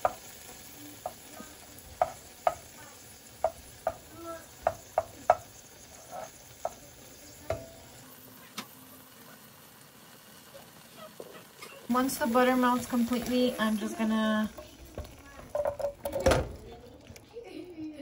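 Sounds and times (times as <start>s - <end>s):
butter sizzling in saucepan: 0.0s - 18.0s.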